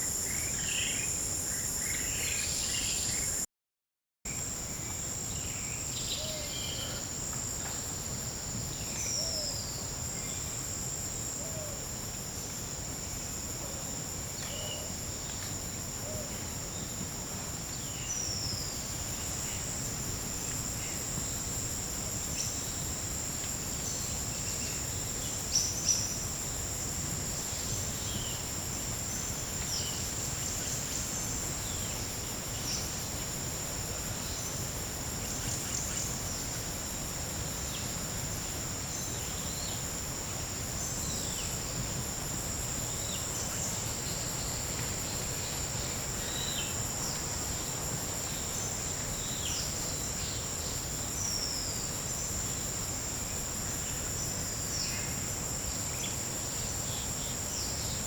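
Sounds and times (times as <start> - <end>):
forest insects chorus: 0.0 - 3.4, 4.3 - 58.0.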